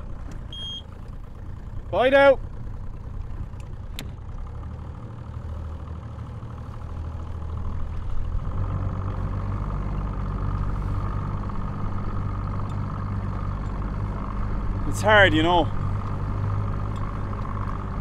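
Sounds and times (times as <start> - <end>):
motorboat engine running: 0.0 - 18.0
wind: 0.0 - 18.0.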